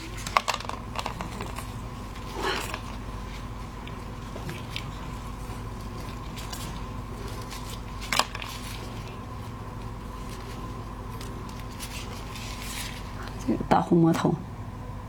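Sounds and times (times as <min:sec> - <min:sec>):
handling clicks and rustles: 0:00.0 - 0:13.4
electrical hum: 0:00.0 - 0:15.0.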